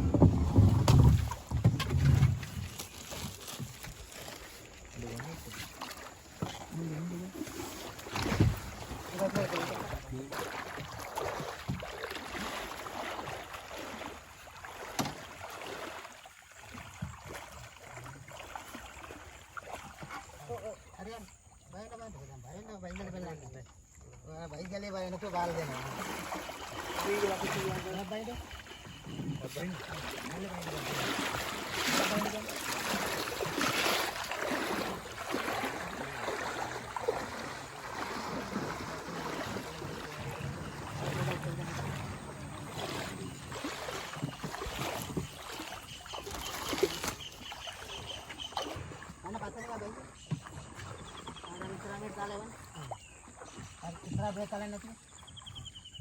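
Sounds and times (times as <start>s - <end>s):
water sloshing and splashing: 0.0s - 56.0s.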